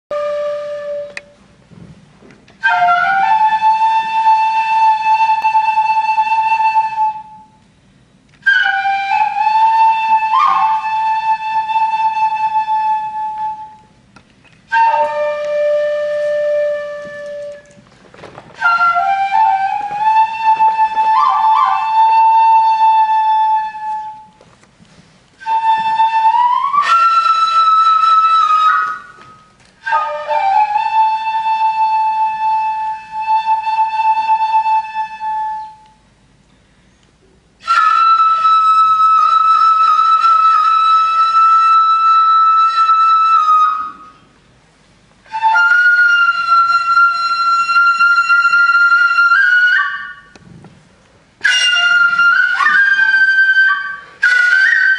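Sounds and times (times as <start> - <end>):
bamboo flute solo: 0.1 - 1.6, 2.4 - 36.3, 36.9 - 44.6, 45.2 - 54.9.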